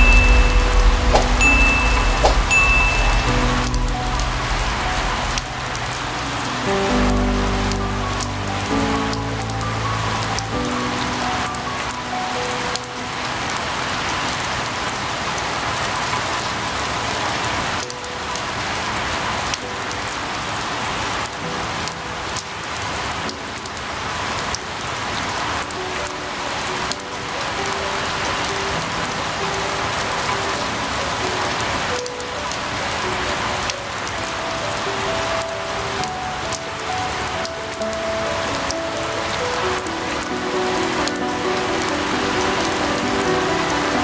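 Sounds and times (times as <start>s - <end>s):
dense rainfall hissing: 0.0s - 44.0s.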